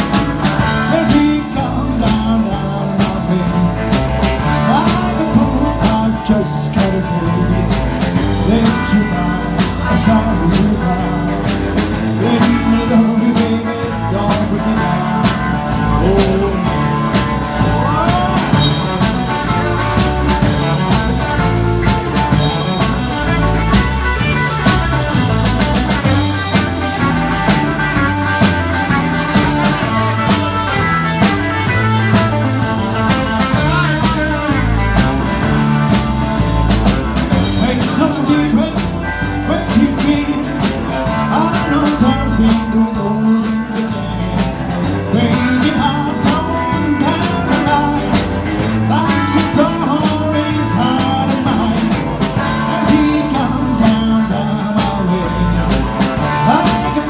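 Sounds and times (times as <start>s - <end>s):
drum kit beat: 0.0s - 57.0s
electric guitars: 0.0s - 57.0s.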